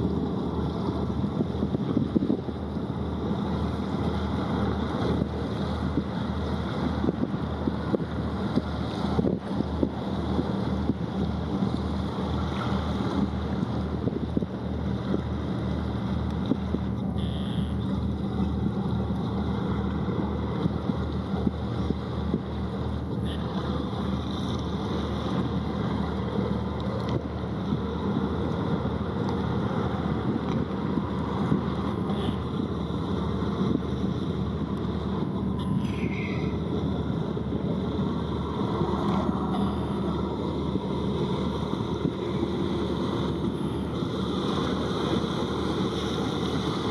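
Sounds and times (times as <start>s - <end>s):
wind noise on microphone: 0.0s - 26.4s, 27.0s - 46.9s
boat engine throbbing: 0.0s - 46.9s.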